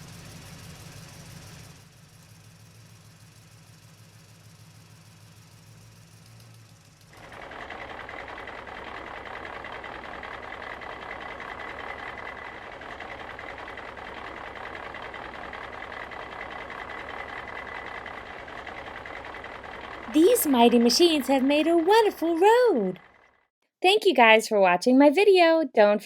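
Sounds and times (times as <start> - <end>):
fast-pulsing engine-like buzz: 0.0 - 23.4.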